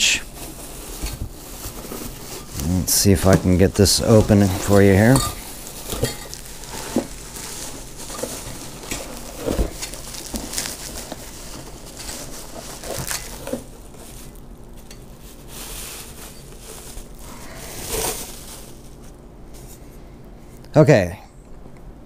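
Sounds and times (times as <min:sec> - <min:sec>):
plastic packaging crinkling: 0:00.1 - 0:19.8.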